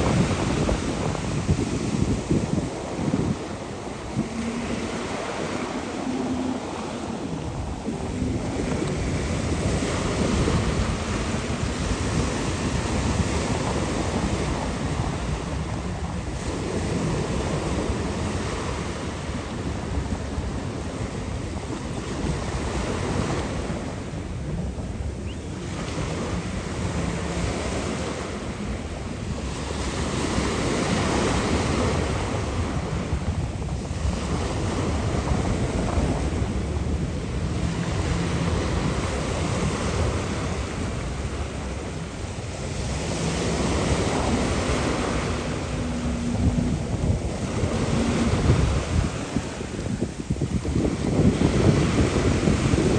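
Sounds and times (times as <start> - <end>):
rushing sea water: 0.0 - 52.9
wind buffeting microphone: 0.0 - 52.9.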